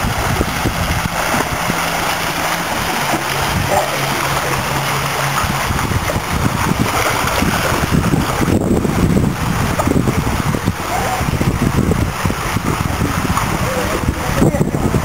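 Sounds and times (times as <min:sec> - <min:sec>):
pool water sloshing and splashing: 0:00.0 - 0:15.0.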